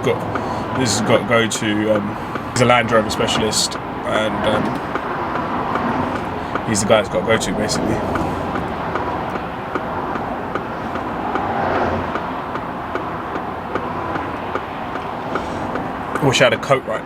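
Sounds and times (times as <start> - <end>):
fast traffic rushing past: 0.0 - 17.0
hazard light flasher ticking: 0.0 - 17.0.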